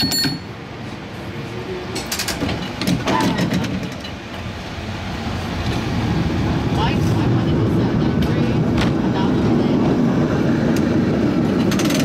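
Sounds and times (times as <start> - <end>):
cable car rumbling: 0.0 - 12.0.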